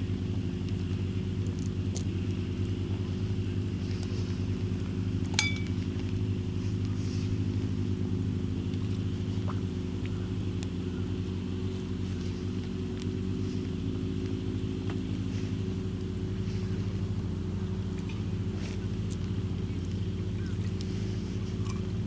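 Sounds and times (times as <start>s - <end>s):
campfire crackling: 0.0s - 22.0s
steady low rumble: 0.0s - 22.0s.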